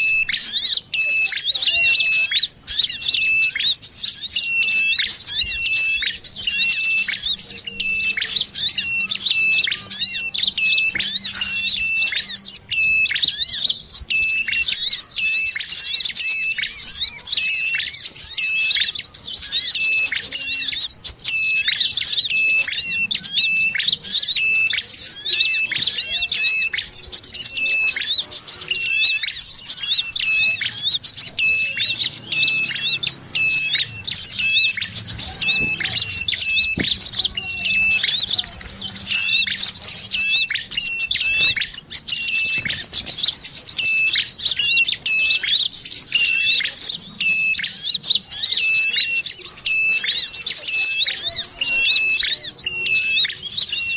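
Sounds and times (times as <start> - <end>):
sharp bird call: 0.0 - 53.9
songbirds chattering: 0.0 - 53.9.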